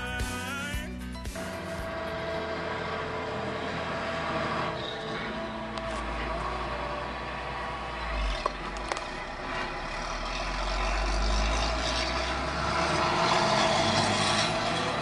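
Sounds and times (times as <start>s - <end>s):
truck rumbling inside cab: 0.0s - 15.0s.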